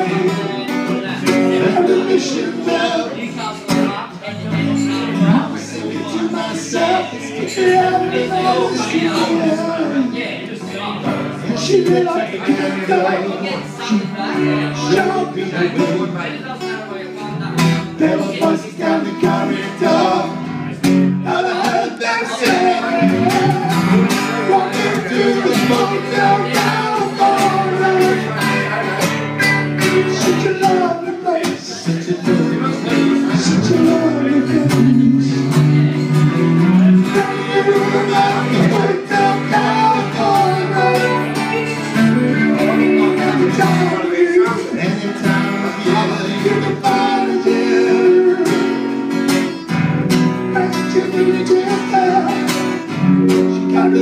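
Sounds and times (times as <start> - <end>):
acoustic guitar strumming: 0.0 - 54.0
electric guitar: 0.0 - 54.0
man singing: 0.0 - 54.0.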